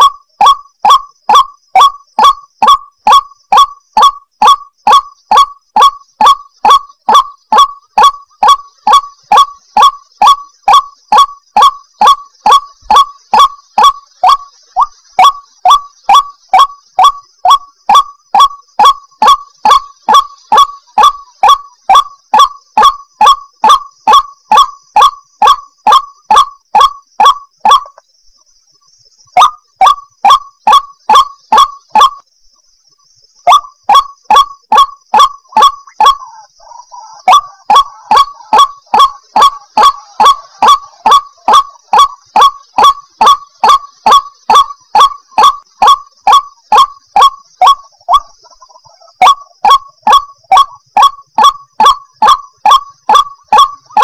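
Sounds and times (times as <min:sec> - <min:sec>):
bird calling harsh repeated notes: 0:00.0 - 0:54.0
faint high-pitched hiss: 0:00.0 - 0:54.0.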